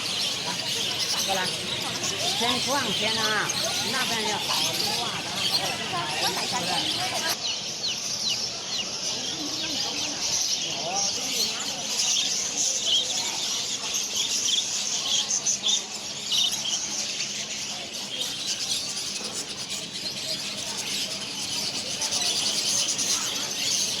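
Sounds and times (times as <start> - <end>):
small birds chirping and twittering: 0.0 - 24.0.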